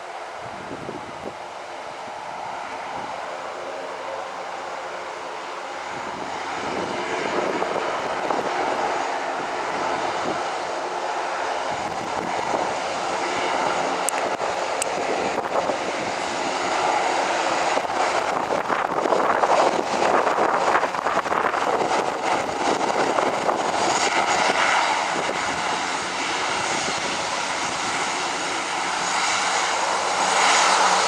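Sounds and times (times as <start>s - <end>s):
twin-engine aircraft approaching: 0.0s - 31.0s.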